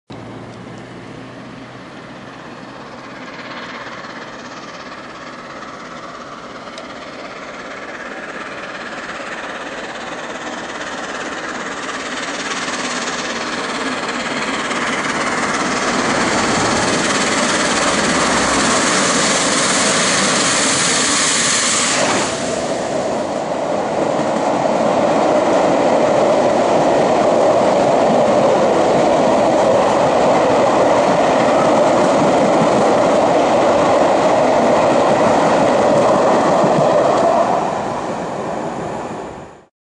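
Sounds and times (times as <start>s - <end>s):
steam locomotive passing: 0.1s - 39.7s
train wheels clickety-clack: 2.0s - 38.1s.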